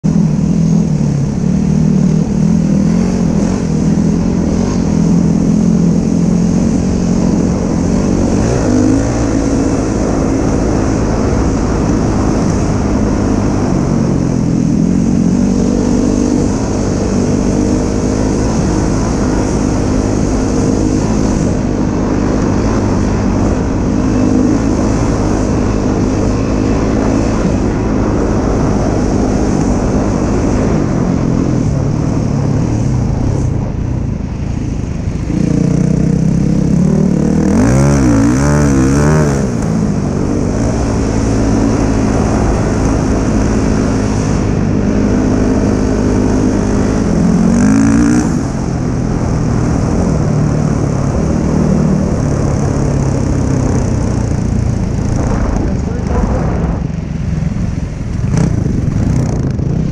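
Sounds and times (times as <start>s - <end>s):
dirt bike engine revving: 0.0s - 33.6s, 35.2s - 59.9s.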